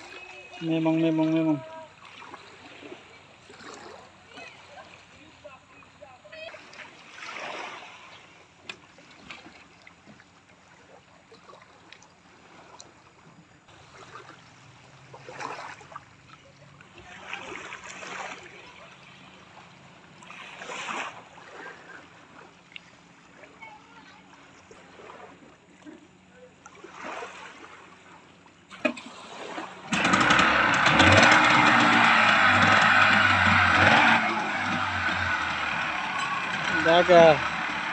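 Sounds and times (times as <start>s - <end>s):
water splashing: 0.0s - 23.6s, 26.6s - 37.9s.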